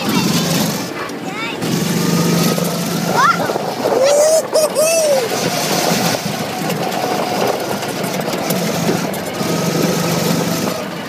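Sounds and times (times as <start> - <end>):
go-kart engine running: 0.0 - 11.0
noisy wash: 0.0 - 11.0.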